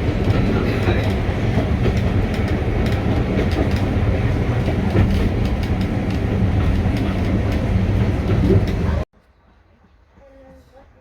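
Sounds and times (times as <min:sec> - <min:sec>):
train carriage low rumble: 0:00.0 - 0:11.0
wheels clicking on rails: 0:00.0 - 0:11.0.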